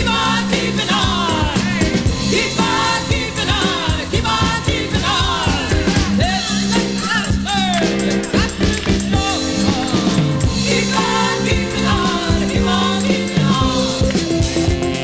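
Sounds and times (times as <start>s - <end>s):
person singing lead vocals: 0.0s - 14.4s
funk soul song on record: 0.0s - 15.0s
steady drum beat: 0.0s - 15.0s.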